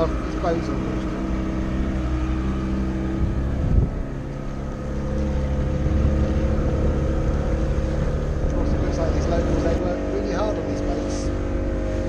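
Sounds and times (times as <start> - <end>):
boat engine running: 0.0 - 12.0
water and wind noise: 0.0 - 12.0.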